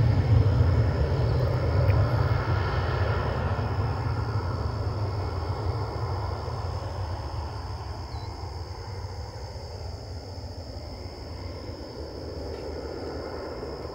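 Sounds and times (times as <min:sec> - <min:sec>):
distant aircraft engine rumble: 0:00.0 - 0:13.9.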